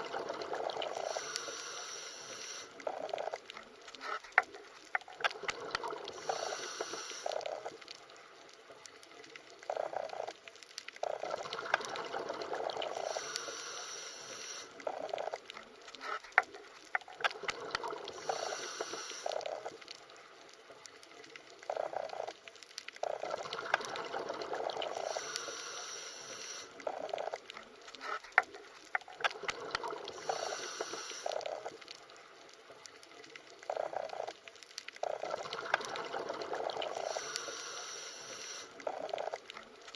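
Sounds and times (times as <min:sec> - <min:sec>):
underwater gurgling and bubbles: 0:00.0 - 0:39.9
sharp underwater clicks: 0:00.2 - 0:39.9.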